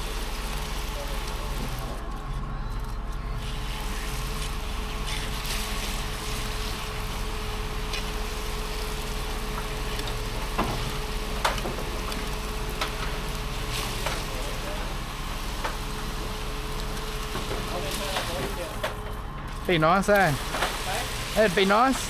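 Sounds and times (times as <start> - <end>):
concrete pump engine running: 0.0 - 22.0.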